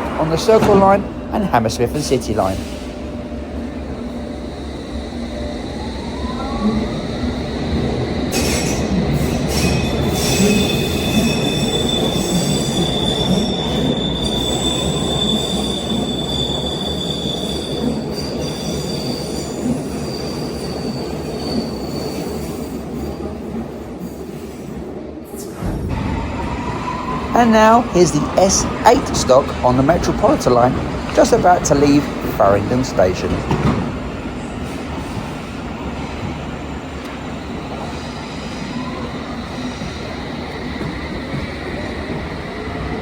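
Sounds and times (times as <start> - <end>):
train rumble: 0.0 - 43.0.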